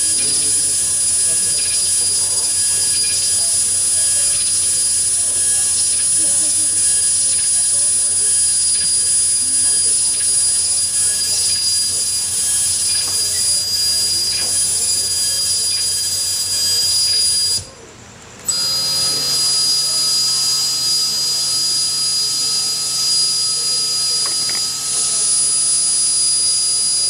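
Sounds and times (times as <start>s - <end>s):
harsh electronic noise: 0.0s - 17.7s, 18.5s - 27.0s.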